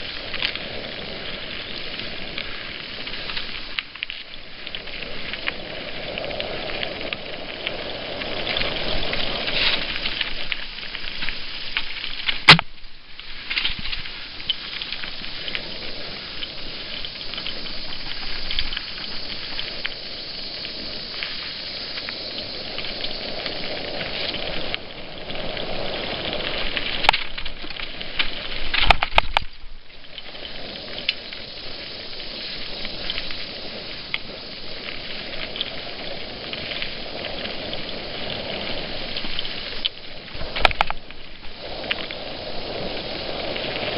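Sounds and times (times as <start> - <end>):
bike and camera rattling: 0.0 - 43.9
tyres crackling over dirt: 0.0 - 43.9.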